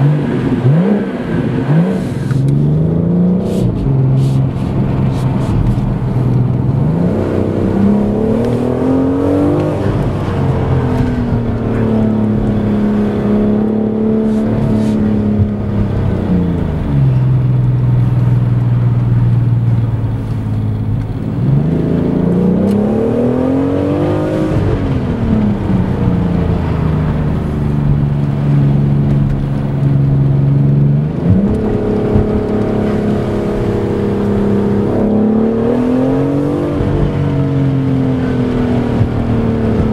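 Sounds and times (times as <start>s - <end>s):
car engine and exhaust revving: 0.0s - 39.9s.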